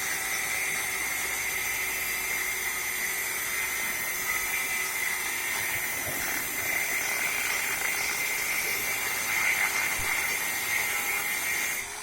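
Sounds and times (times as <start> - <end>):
power tool cutting iron: 0.0 - 12.0.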